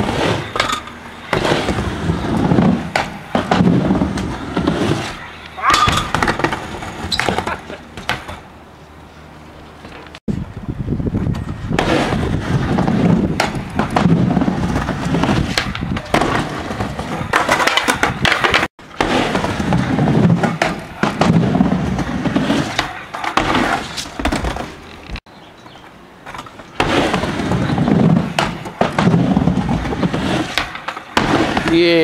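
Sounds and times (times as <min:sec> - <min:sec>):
skateboard wheels rolling on wood: 0:00.0 - 0:32.0.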